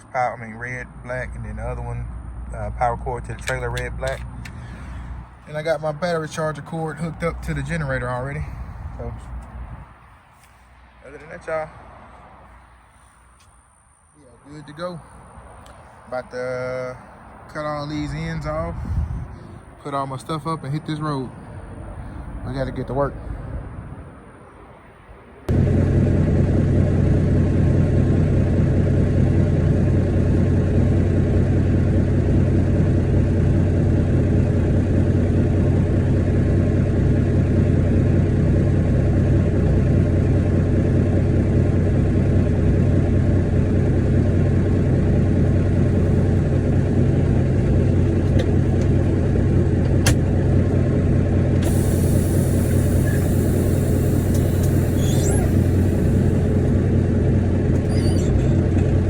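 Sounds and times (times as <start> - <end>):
diesel truck engine rumbling: 0.0 - 59.0.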